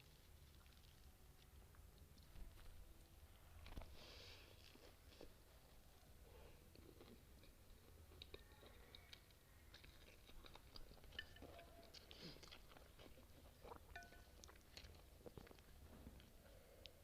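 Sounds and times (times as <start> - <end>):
faint chewing: 0.0 - 2.9, 3.6 - 17.0.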